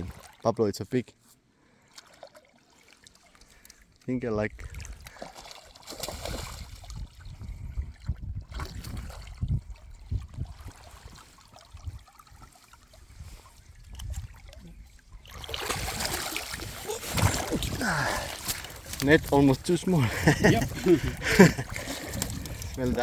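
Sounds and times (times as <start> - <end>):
river water trickling: 1.2 - 8.1, 9.0 - 23.0.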